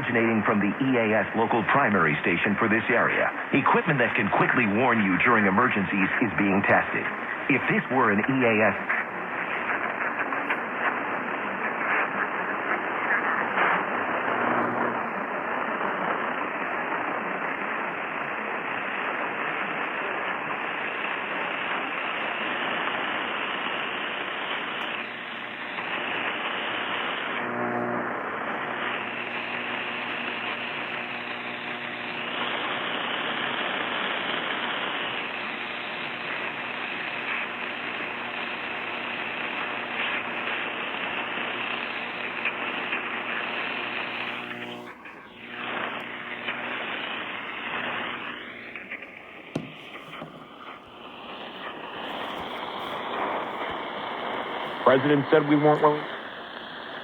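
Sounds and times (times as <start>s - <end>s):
faint radio tone: 0.0s - 57.0s
radio static hiss: 0.0s - 57.0s.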